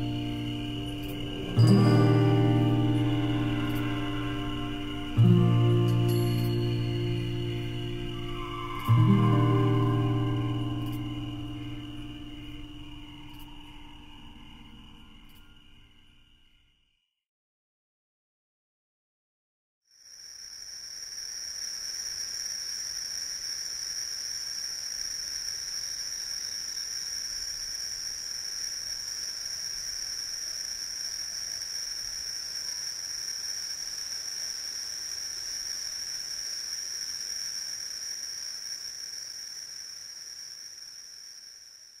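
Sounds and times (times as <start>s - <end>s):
crickets trilling: 0.0s - 17.0s, 19.9s - 42.0s.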